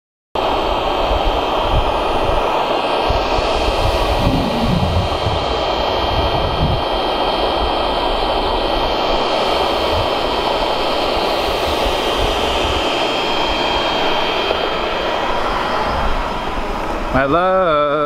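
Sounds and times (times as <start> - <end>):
electric air pump whirring: 0.4 - 17.2.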